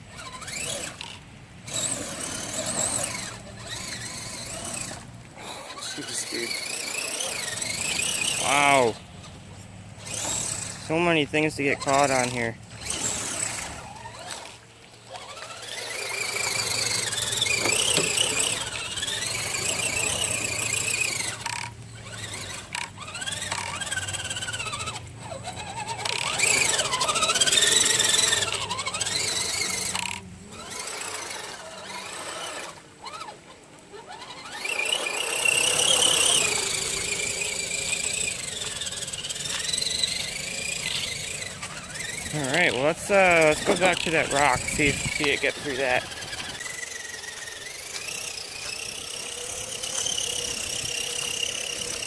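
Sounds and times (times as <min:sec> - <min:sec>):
electric motor and gears whining: 0:00.0 - 0:52.0.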